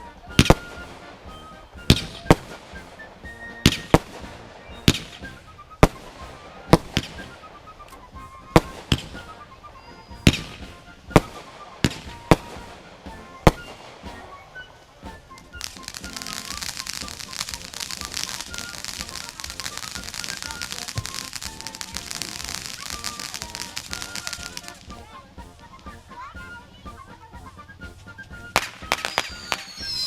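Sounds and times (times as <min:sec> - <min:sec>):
fireworks banging: 0:00.0 - 0:25.0, 0:28.5 - 0:30.0.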